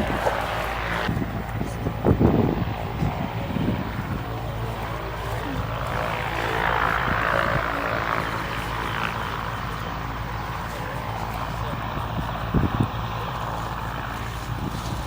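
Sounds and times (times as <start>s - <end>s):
aircraft propeller engine drone: 0.0s - 15.0s.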